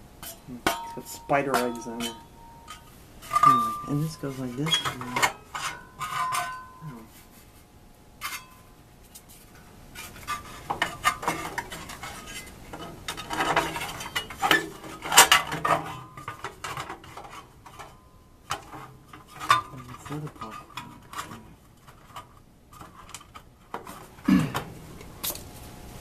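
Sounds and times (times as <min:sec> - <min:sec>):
sheet metal clanks and scrapes: 0:00.2 - 0:07.0, 0:08.2 - 0:08.6, 0:10.0 - 0:24.1.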